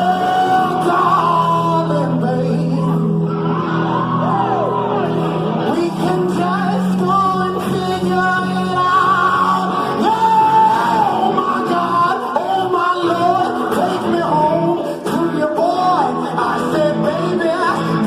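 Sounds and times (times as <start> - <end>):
person singing long bending notes: 0.0 - 4.2, 5.4 - 18.0
live band playing: 0.0 - 18.0.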